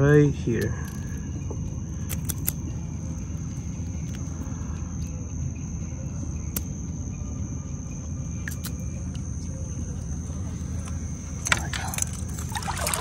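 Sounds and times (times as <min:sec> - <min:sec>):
thin steady high tone: 0:00.0 - 0:13.0.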